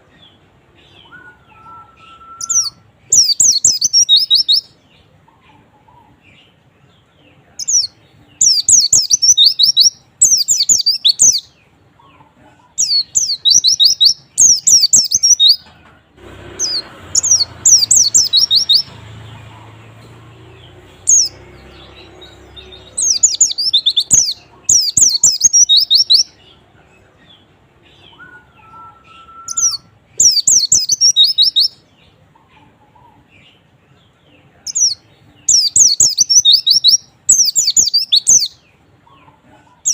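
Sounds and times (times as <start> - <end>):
bird chirping warbles: 0.0 - 15.7, 16.6 - 33.8, 34.4 - 39.9.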